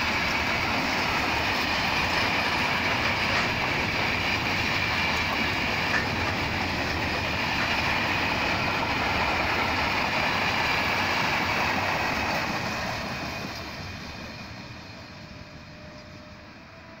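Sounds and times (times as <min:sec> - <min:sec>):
bright hiss from train wheels: 0:00.0 - 0:17.0
freight train rumbling past: 0:00.0 - 0:17.0.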